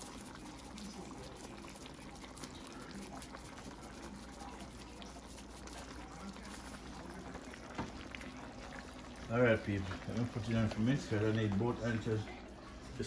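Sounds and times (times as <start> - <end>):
pot simmering with quiet bubbling: 0.0 - 13.0.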